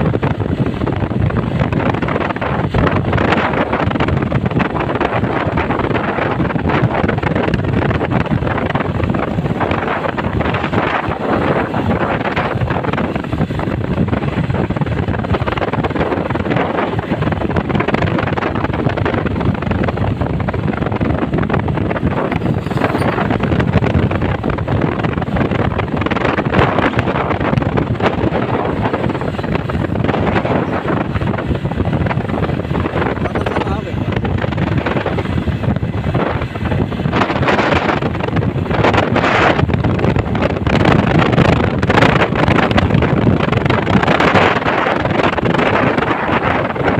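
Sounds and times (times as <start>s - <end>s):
road traffic: 0.0s - 46.9s
wind buffeting microphone: 0.0s - 46.9s.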